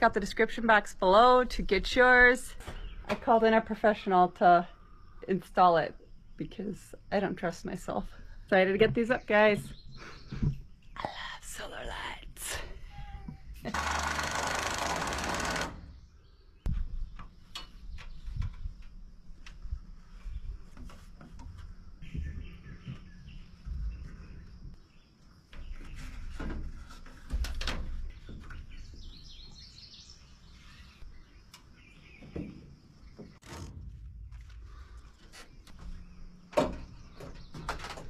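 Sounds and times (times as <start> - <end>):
birds chirping: 0.0 - 5.4, 6.0 - 33.7, 34.6 - 38.0.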